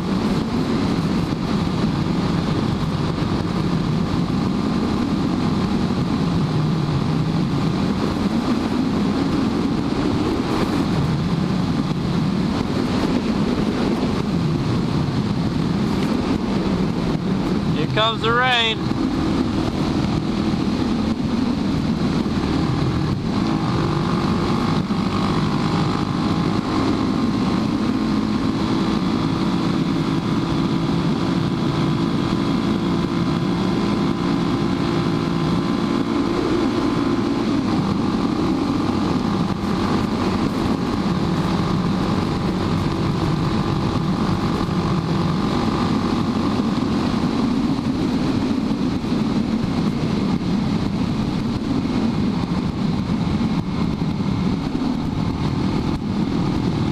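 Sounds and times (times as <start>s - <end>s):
motorcycle engine cruising: 0.0s - 56.9s
wind buffeting microphone: 0.0s - 56.9s.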